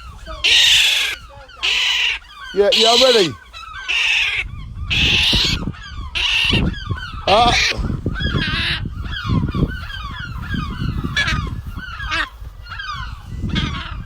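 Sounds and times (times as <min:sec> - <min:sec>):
seagulls squawking: 0:00.0 - 0:14.0.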